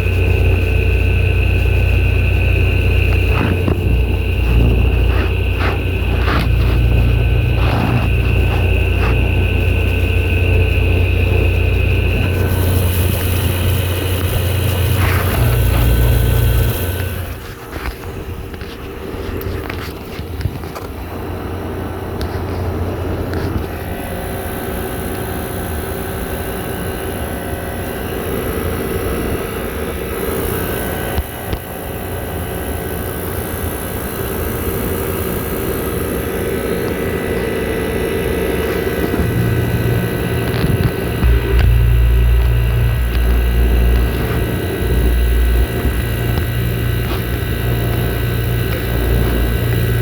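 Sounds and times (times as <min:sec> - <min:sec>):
air conditioner fan rush: 0:00.0 - 0:50.0
motor hum: 0:00.0 - 0:50.0.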